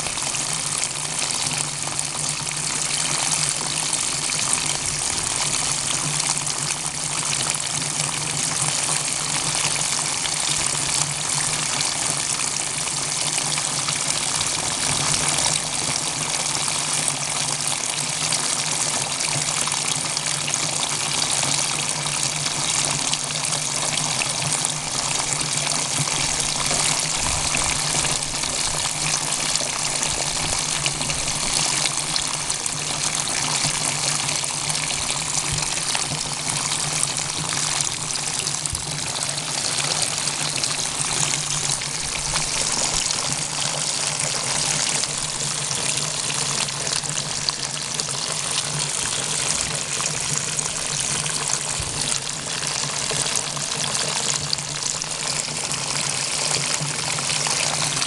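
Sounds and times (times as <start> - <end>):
water gushing onto grass: 0.0 - 58.0.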